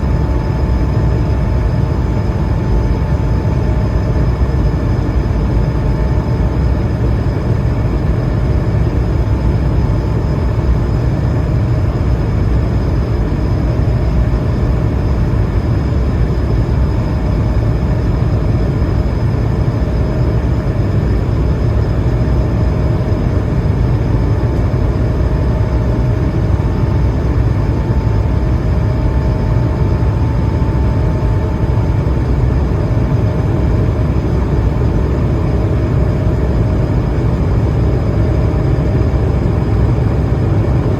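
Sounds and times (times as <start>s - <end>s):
aircraft cabin engine rumble: 0.0s - 40.9s
faint whining tones: 0.0s - 40.9s.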